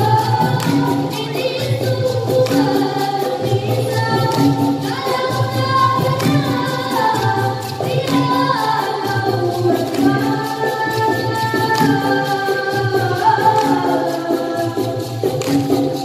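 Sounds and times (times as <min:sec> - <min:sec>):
children's chorus singing: 0:00.0 - 0:16.0
repeating percussion beat: 0:00.0 - 0:16.0.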